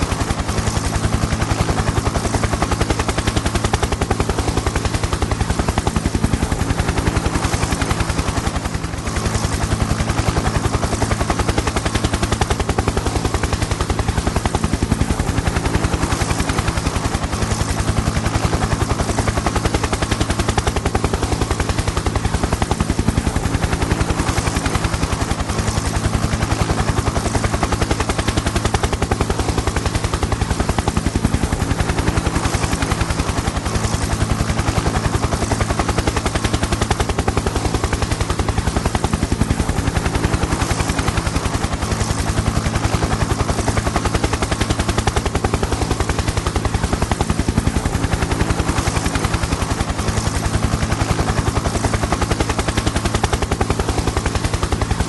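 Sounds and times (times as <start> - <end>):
helicopter engine hum: 0.0 - 55.0
helicopter rotor chop: 0.0 - 55.0.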